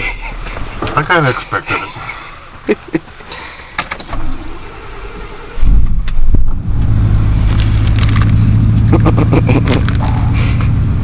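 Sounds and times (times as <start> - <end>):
car engine starting and idling: 0.0 - 11.0.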